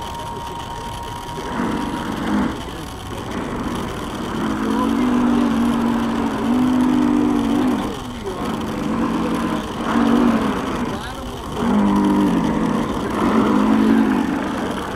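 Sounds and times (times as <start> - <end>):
model boat engine droning: 0.0 - 14.9.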